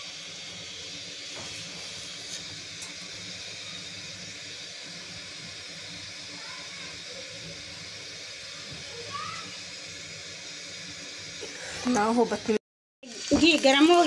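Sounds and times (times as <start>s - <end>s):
ghee sizzling in a pan: 0.0s - 14.0s.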